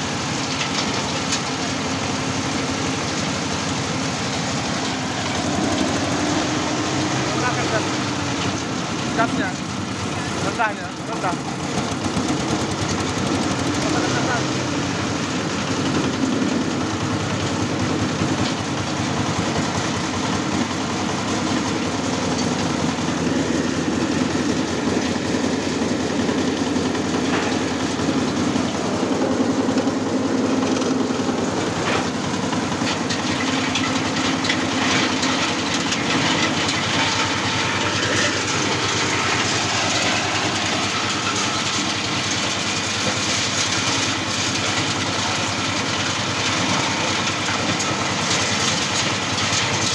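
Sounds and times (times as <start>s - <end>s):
dehusking machine running: 0.0s - 49.9s.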